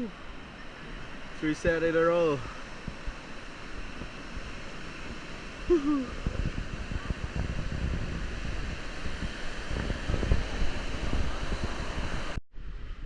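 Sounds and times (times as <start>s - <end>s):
breaking surf: 0.0s - 12.4s
wind buffeting microphone: 0.0s - 13.0s.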